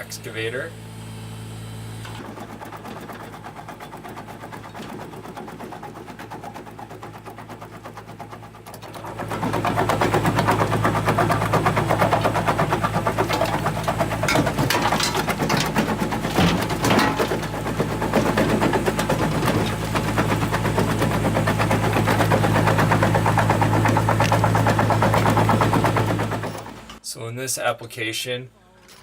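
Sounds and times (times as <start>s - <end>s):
jaw crusher humming: 0.0s - 27.0s
concrete being crushed clatter: 2.0s - 27.0s.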